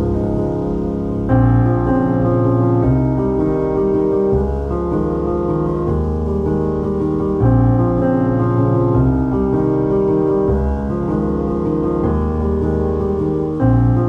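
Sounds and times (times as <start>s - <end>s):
background piano music: 0.0s - 14.0s.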